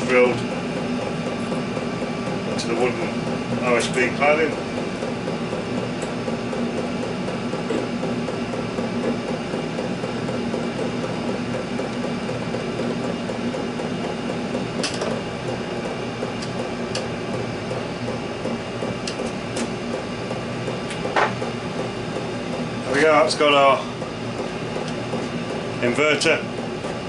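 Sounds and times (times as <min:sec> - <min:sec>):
heater droning hum: 0:00.0 - 0:27.0.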